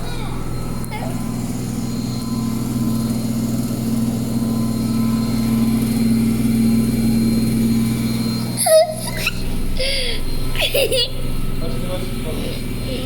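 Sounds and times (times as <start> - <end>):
washing machine droning: 0.0 - 13.0.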